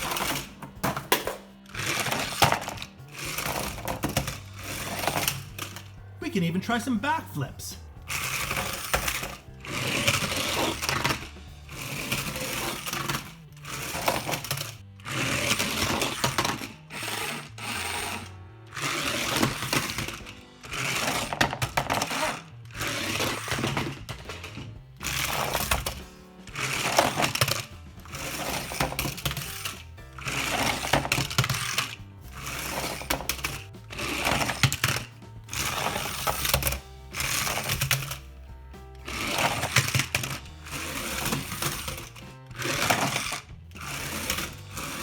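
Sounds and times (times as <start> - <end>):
toy car electric motor whirring: 0.0 - 6.2, 7.8 - 45.0
background music: 0.0 - 45.0.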